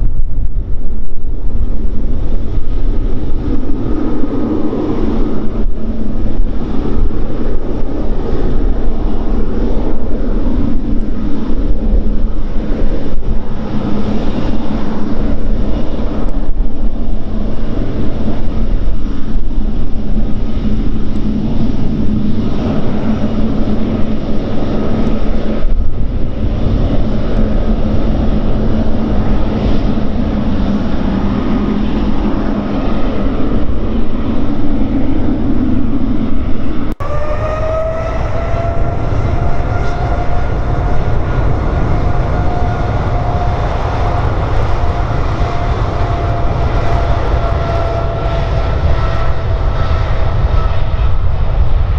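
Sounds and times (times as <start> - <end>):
jet engines running with whine: 0.0 - 51.9.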